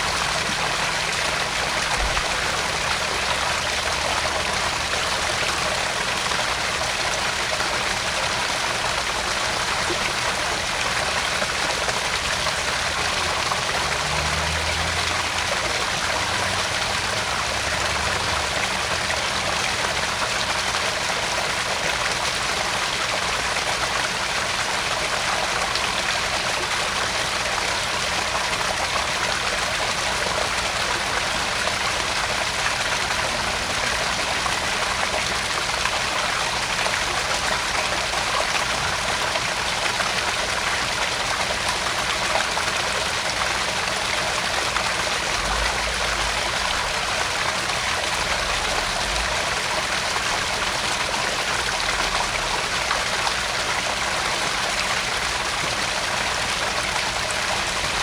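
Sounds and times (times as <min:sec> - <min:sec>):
water splashing into pond: 0:00.0 - 0:58.0.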